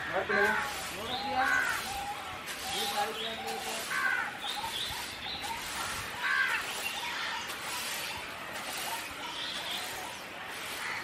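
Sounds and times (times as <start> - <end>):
birds calling: 0.0 - 11.0
steady outdoor hiss: 0.0 - 11.0.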